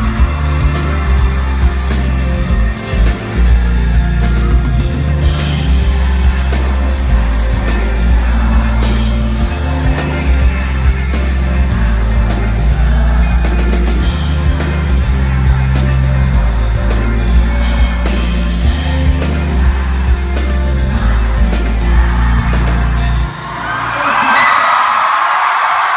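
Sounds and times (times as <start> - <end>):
live rock band playing: 0.0 - 23.5
person singing: 0.0 - 24.6
crowd cheering and screaming: 0.0 - 25.9.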